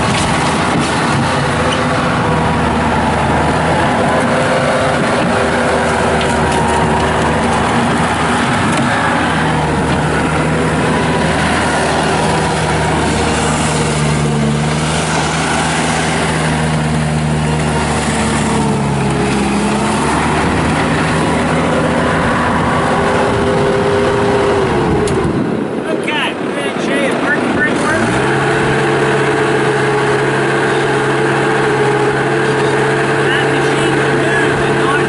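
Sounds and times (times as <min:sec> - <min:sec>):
diesel loader engine running: 0:00.0 - 0:35.0.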